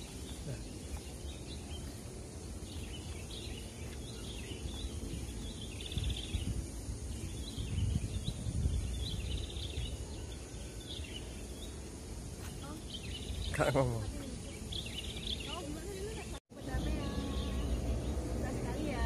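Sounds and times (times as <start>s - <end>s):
birds chirping and trilling: 0.0s - 19.0s.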